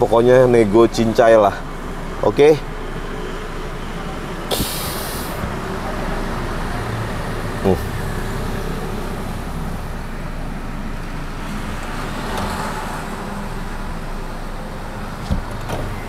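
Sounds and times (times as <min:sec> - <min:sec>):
low hum of vehicle and street: 0:00.0 - 0:16.0.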